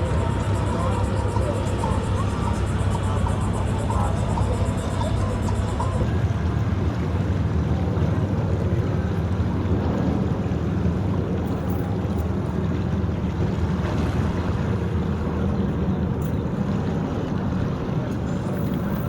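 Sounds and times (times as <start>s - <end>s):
boat motor droning: 0.0s - 19.0s.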